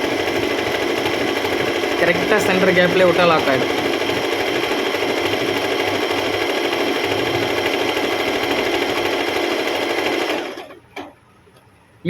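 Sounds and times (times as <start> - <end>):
electric sewing machine running: 0.0 - 11.1.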